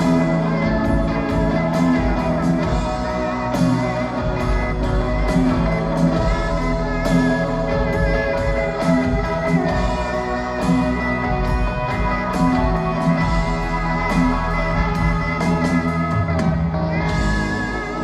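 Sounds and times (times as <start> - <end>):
live rock band instrumental: 0.0 - 18.0
pedal steel guitar sliding notes: 0.0 - 18.0.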